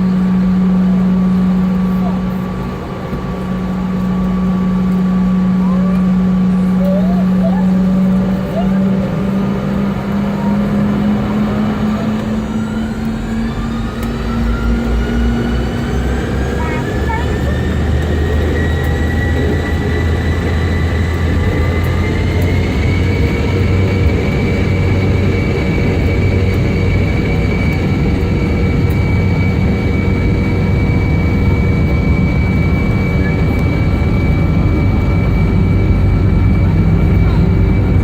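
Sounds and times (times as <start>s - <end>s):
jet engines in cabin: 0.0s - 38.0s.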